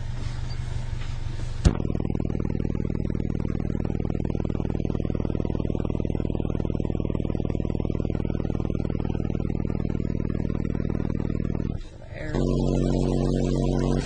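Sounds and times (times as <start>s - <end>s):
subwoofer low bass tone: 0.0s - 14.0s.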